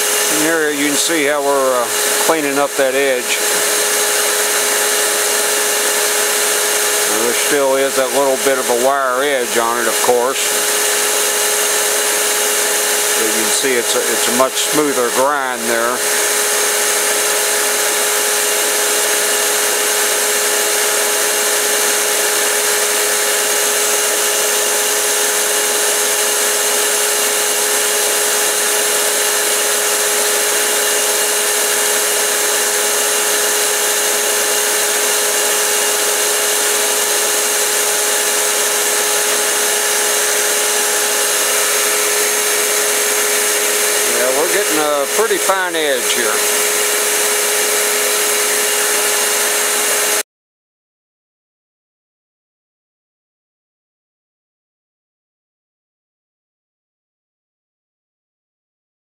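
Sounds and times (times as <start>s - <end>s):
belt grinder humming: 0.0s - 50.2s.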